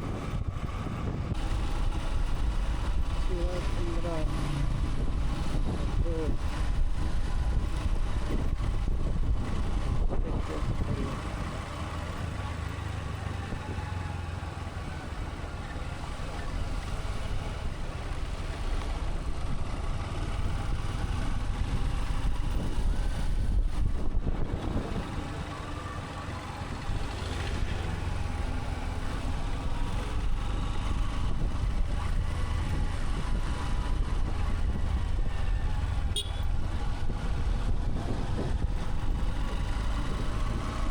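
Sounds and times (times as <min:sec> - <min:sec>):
motorcycle engine rumbling: 0:00.0 - 0:40.9.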